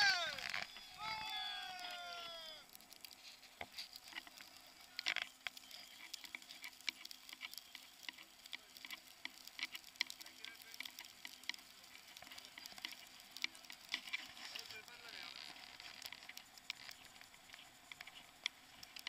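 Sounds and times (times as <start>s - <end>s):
faint steady hum: 0.0s - 19.0s
tyres crackling on snow: 0.0s - 19.0s.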